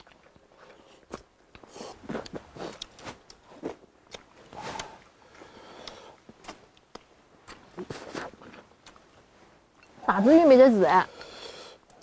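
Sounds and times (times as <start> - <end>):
person chewing food: 0.0 - 10.1, 11.1 - 12.0.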